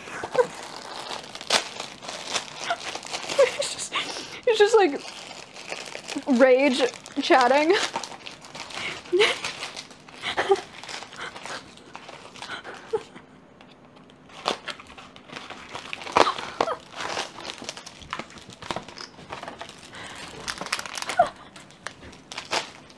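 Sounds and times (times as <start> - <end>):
plastic packets crinkling: 0.0 - 13.0, 14.1 - 22.9.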